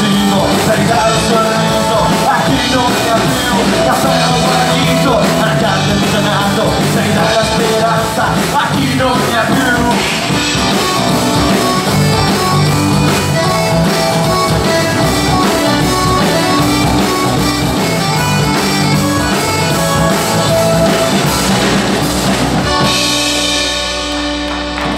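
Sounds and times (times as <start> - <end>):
accordion: 0.0 - 24.9
drum kit beat: 0.0 - 24.9
guitars: 0.0 - 24.9.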